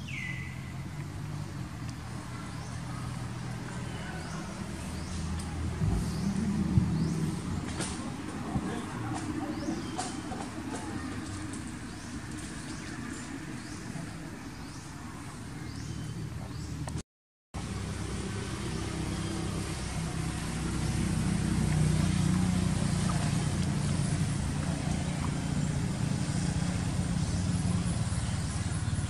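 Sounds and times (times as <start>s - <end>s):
vehicle engine running: 0.0s - 14.8s, 17.6s - 29.0s.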